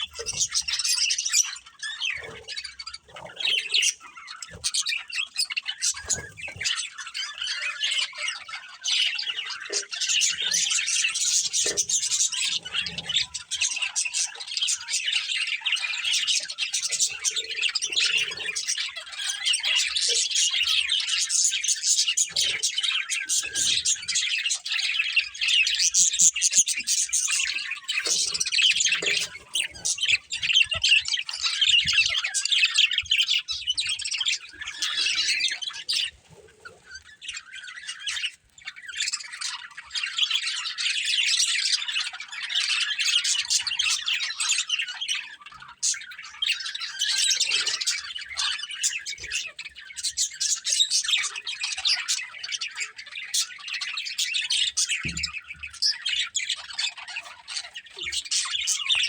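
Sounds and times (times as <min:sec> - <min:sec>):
budgerigars chirping and squawking: 0:00.0 - 0:59.0.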